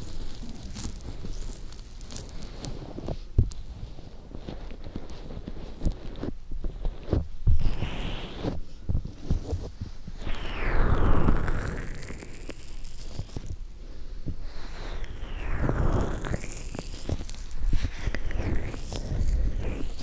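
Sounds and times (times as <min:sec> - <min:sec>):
fur rustling on microphone: 0:00.0 - 0:13.7, 0:14.4 - 0:20.0
fingertips tapping microphone: 0:00.0 - 0:20.0.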